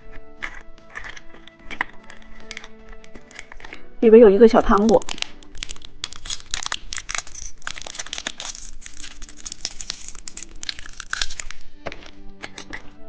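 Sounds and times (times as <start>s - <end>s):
wrapper tearing: 0.0s - 3.9s, 4.6s - 12.9s
candy wrapper crinkling: 0.0s - 13.0s.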